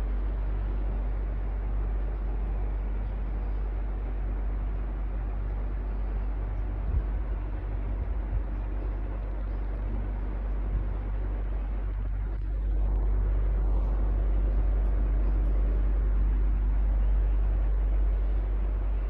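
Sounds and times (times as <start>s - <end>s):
electric fan whirring: 0.0s - 19.0s.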